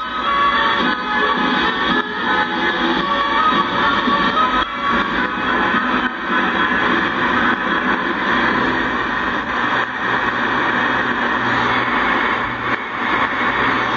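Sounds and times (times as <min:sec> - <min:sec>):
shortwave radio static: 0:00.0 - 0:13.9.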